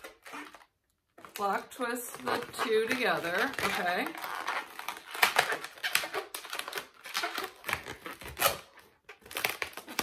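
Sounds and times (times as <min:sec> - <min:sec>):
balloon latex rubbing: 0:00.0 - 0:10.0.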